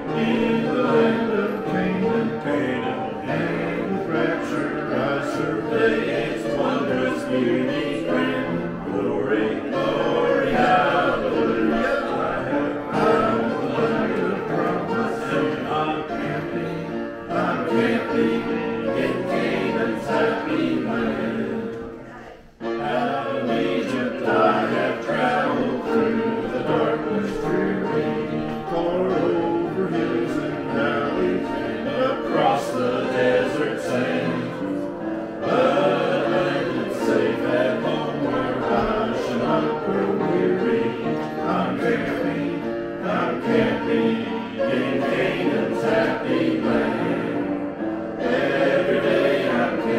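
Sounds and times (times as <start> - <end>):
choir singing gospel: 0.0 - 49.9.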